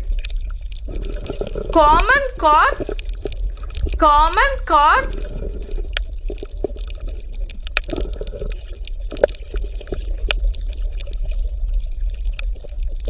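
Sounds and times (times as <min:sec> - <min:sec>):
water bubbling and gurgling: 0:00.0 - 0:13.0.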